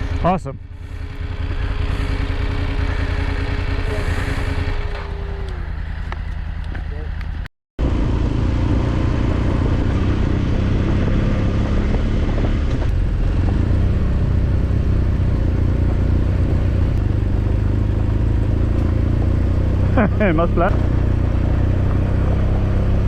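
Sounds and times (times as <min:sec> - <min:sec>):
motorcycle engine droning: 0:00.0 - 0:23.0
wind and road noise: 0:00.0 - 0:23.0.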